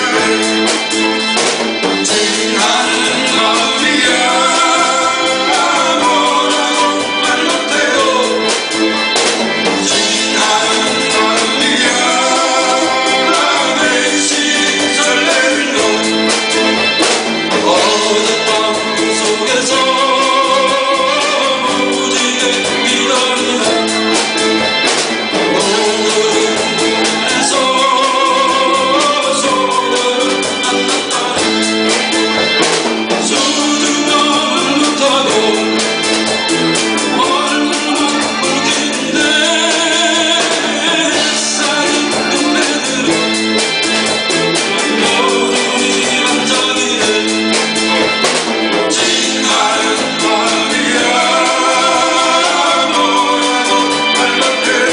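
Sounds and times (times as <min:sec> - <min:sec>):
live band accompaniment: 0:00.0 - 0:54.9
person singing pop song: 0:00.0 - 0:54.9.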